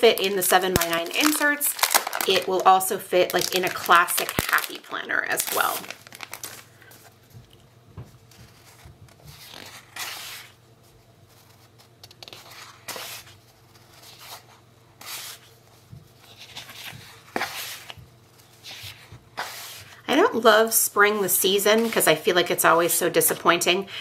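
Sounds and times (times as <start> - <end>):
sticker sheets rustling: 0.0 - 7.4, 8.2 - 20.0, 21.0 - 23.0.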